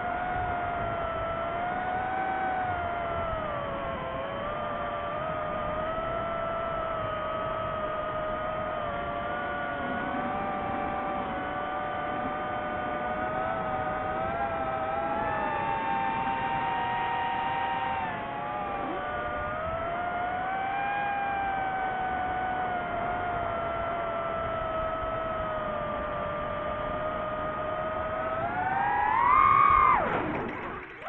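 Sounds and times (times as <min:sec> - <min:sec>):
drone propellers whining: 0:00.0 - 0:31.0.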